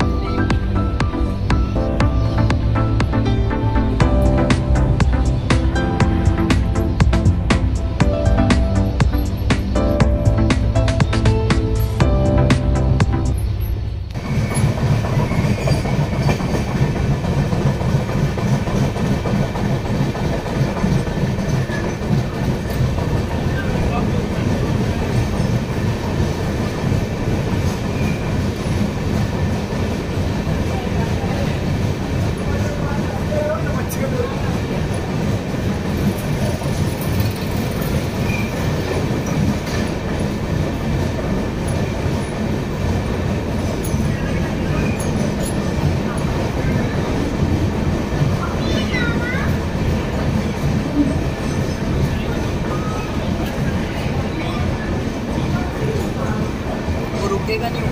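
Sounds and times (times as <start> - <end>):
train coaches rumbling: 0.0 - 57.9
wheels clattering over rails: 0.0 - 57.9.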